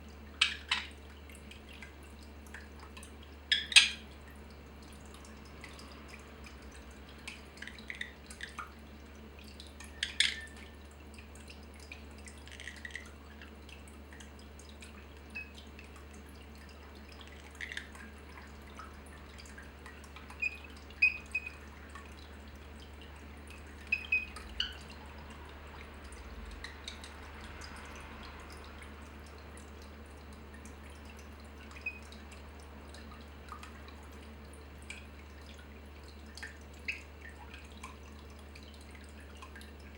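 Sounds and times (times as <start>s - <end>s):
low steady hum: 0.0s - 39.9s
water dripping: 0.0s - 39.9s.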